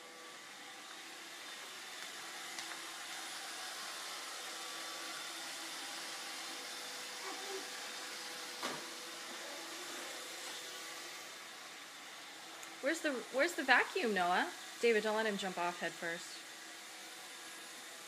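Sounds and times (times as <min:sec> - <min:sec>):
robot vacuum running: 0:00.0 - 0:18.0.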